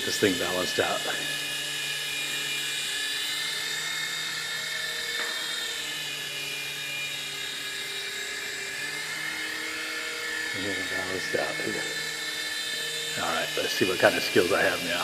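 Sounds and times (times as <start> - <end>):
toy helicopter motor whine: 0.0 - 15.0.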